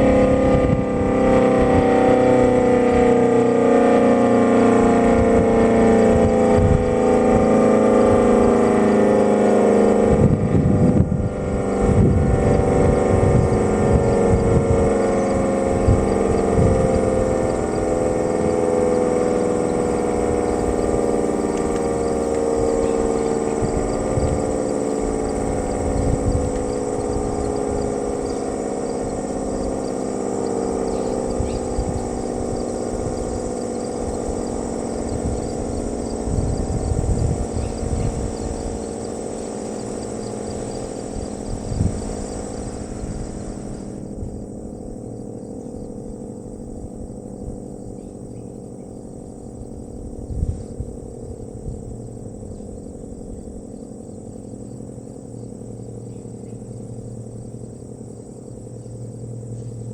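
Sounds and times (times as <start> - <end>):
warning siren winding down: 0.0 - 59.9.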